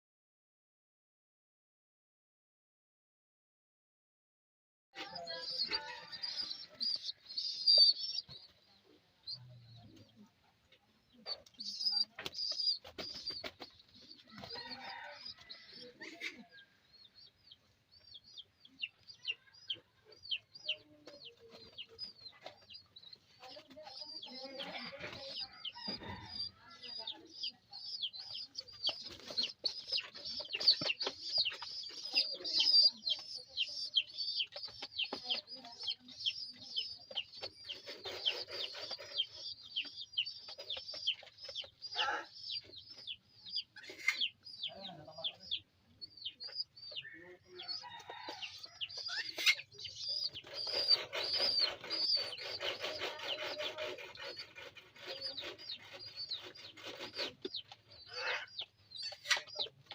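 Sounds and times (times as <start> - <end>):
pigeon chicks peeping: 5.0 - 59.9.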